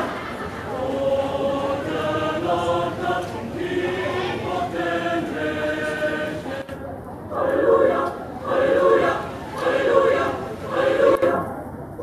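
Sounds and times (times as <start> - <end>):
mixed choir singing in harmony: 0.0 - 6.7, 7.4 - 11.5.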